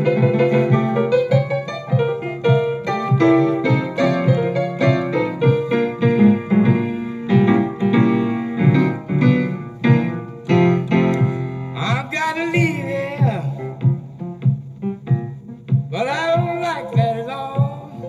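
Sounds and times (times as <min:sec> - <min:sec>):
solo blues piano: 0:00.0 - 0:18.0.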